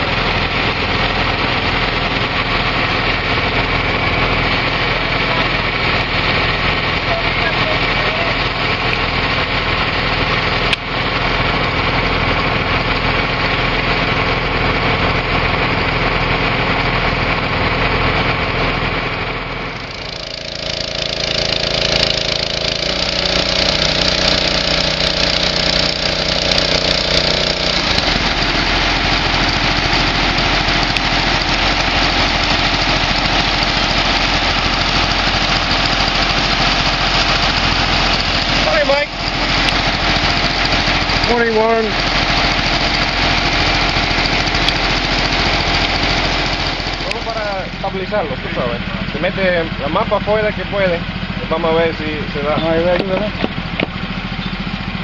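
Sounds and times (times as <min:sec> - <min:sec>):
engine machinery running: 0:00.0 - 0:55.0.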